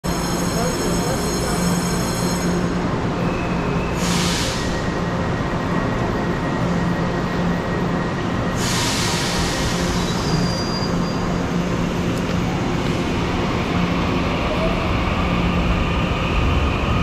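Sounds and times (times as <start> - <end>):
electric train rumbling and humming: 0.0 - 17.0.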